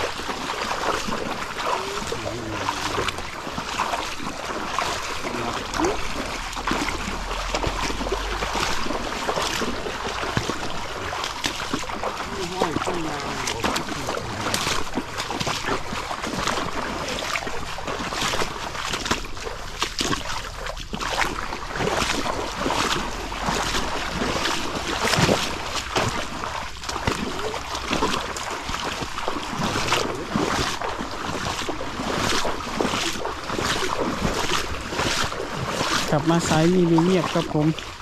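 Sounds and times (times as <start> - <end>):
water splashing and sloshing: 0.0 - 38.0.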